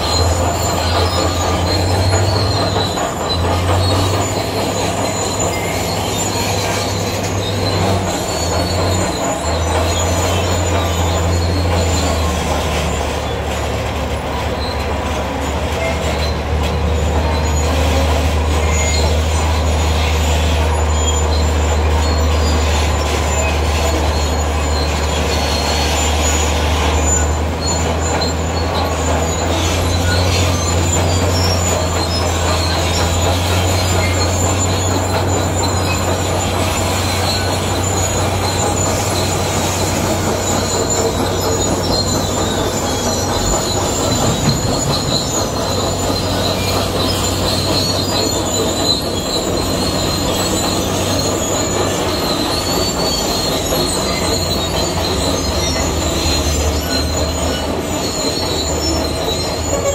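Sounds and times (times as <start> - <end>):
bulldozer diesel engine hum: 0.0 - 59.9
steel tracks squealing: 0.0 - 59.9.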